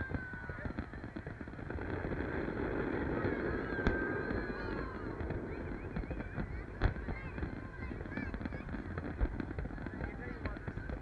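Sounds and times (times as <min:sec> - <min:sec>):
distant firework bursts: 0:00.0 - 0:11.0
fireworks crackling: 0:00.0 - 0:11.0
high whistling fireworks: 0:00.0 - 0:11.0
sharp firework bang: 0:00.0 - 0:11.0.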